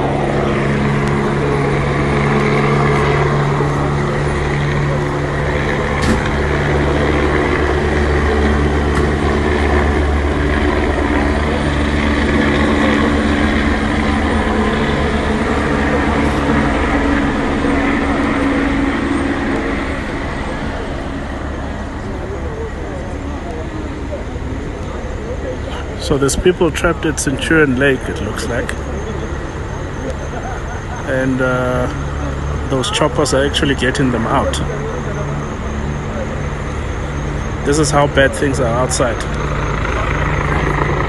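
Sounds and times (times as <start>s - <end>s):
helicopter flying low overhead: 0.0s - 41.0s
large vehicle engine idling: 0.0s - 41.0s.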